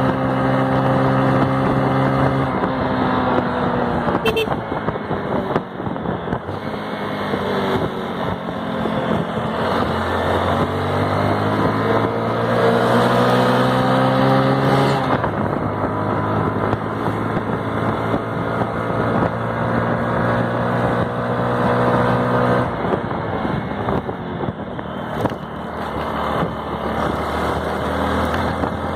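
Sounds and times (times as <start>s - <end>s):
motorcycle engine under load: 0.0s - 28.9s.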